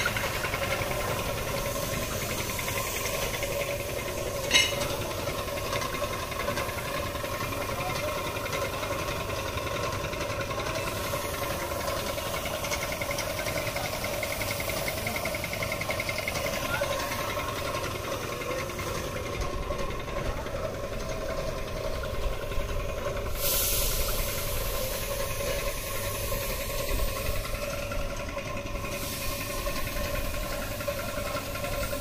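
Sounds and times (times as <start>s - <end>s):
spray gun hissing: 0.0s - 8.8s, 10.5s - 19.4s, 23.2s - 28.2s, 28.8s - 32.0s
air compressor running: 0.0s - 32.0s.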